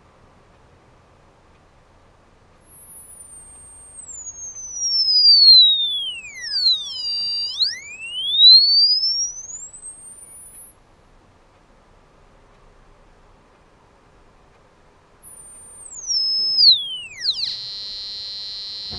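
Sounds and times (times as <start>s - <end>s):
piezo buzzer gliding tone: 0.7s - 11.9s, 14.6s - 18.9s.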